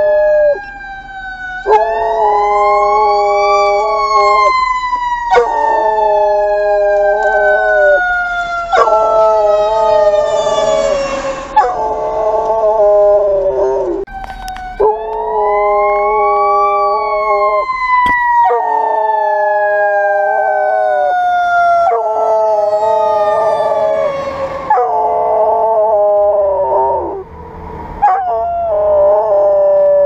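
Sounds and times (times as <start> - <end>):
fire engine siren: 0.0 - 30.0
dog howling: 1.7 - 4.6, 5.3 - 27.3, 28.0 - 30.0.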